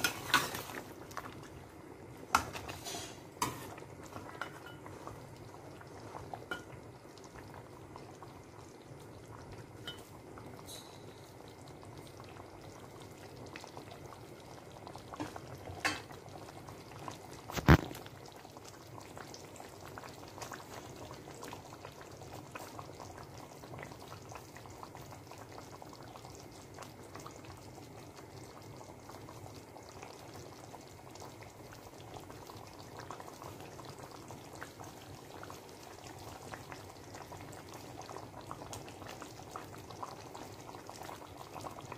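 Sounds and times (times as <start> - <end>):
sauce bubbling and crackling: 0.0 - 41.9.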